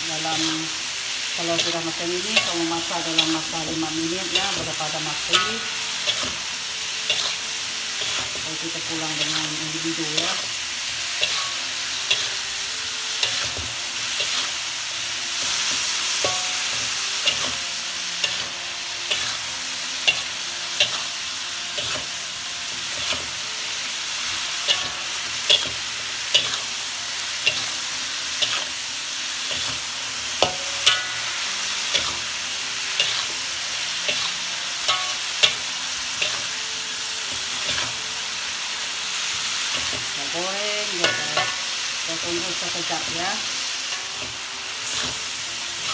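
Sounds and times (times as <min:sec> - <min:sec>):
beans sizzling in a wok: 0:00.0 - 0:45.9
metal spatula scraping a wok: 0:01.5 - 0:38.3, 0:39.3 - 0:45.9.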